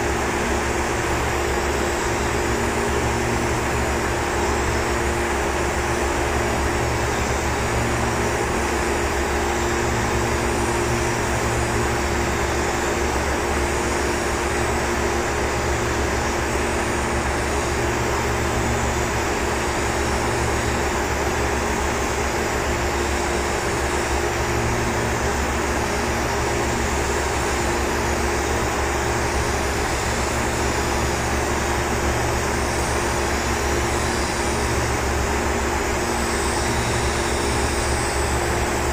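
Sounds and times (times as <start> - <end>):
ventilation hum: 0.0 - 38.9.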